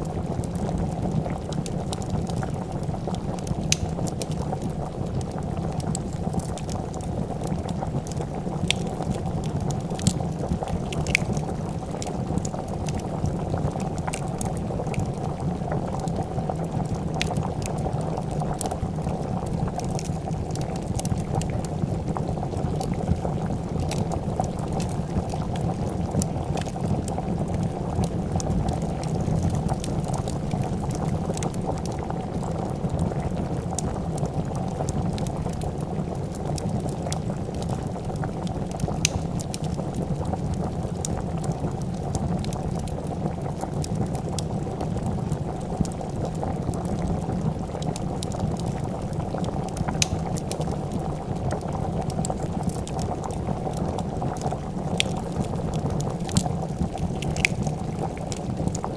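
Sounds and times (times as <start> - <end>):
soup bubbling in a pot: 0.0 - 58.9
wood fire crackles: 0.0 - 58.9.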